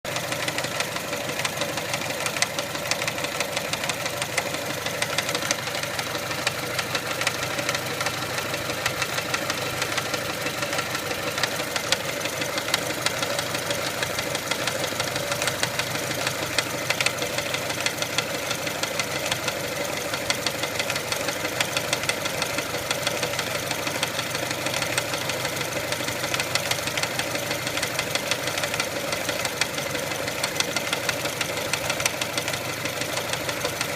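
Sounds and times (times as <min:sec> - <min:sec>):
car engine idling with knocking: 0:00.1 - 0:33.9.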